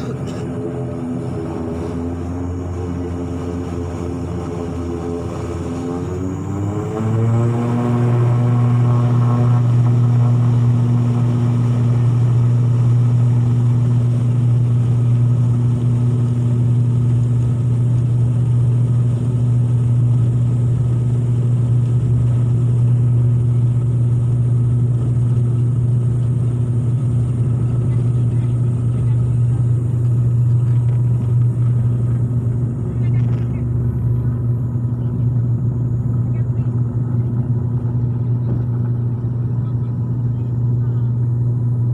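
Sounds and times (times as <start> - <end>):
propeller engines droning: 0.0 - 41.9.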